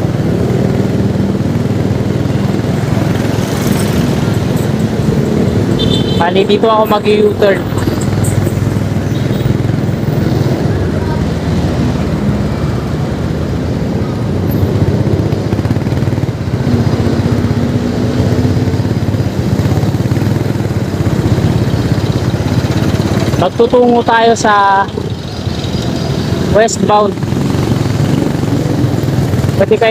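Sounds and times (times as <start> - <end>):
road and wind noise: 0.0 - 29.9
vehicle engine running: 0.0 - 29.9.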